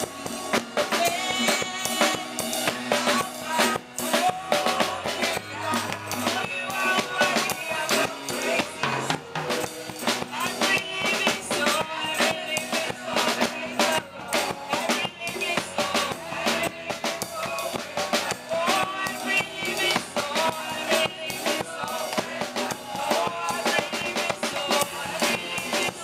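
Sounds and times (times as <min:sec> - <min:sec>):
live gospel band music: 0:00.0 - 0:26.0.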